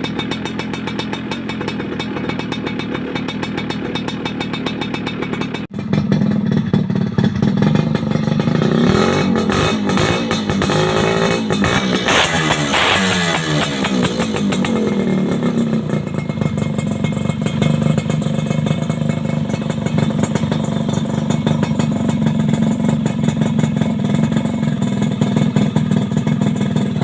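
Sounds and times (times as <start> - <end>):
two-stroke motorcycle engine idling: 0.0 - 27.0.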